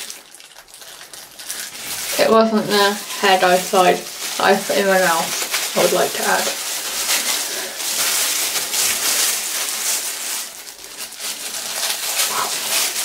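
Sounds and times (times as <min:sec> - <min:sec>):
gloved hands rubbing hair: 0:01.7 - 0:13.0.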